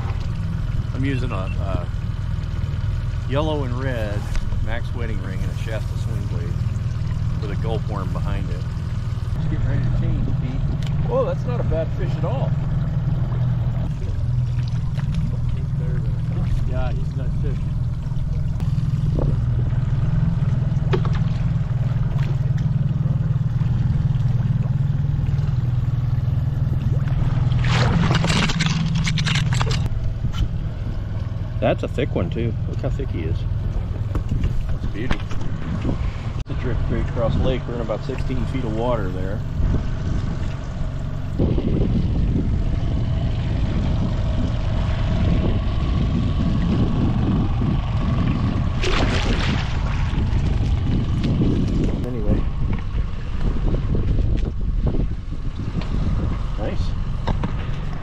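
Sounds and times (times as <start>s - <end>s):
boat motor humming: 0.0s - 58.0s.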